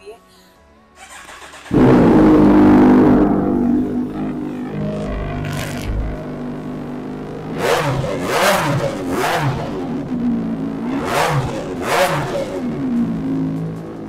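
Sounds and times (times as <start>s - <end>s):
motorcycle engine idling and revving: 1.0s - 14.0s.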